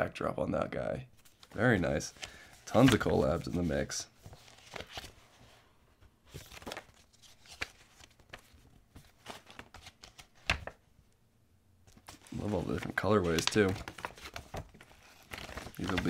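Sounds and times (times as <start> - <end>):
paper rustling and sliding: 1.2 - 5.6, 6.3 - 10.8, 11.9 - 16.0.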